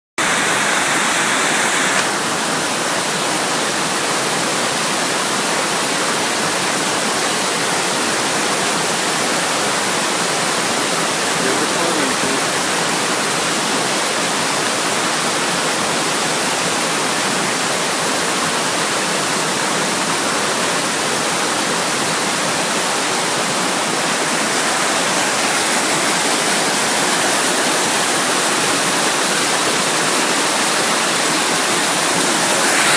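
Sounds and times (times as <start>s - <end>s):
waterfall rushing: 0.2s - 32.9s.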